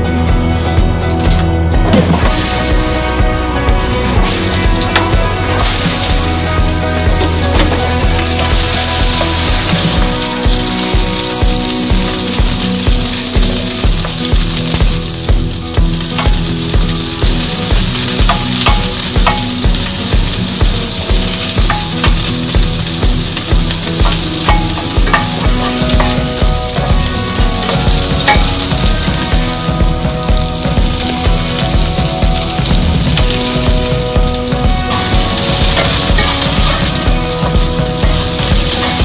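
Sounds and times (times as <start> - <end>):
low pulsing beat: 0.4 - 39.0
onions sizzling in hot oil: 4.0 - 39.0.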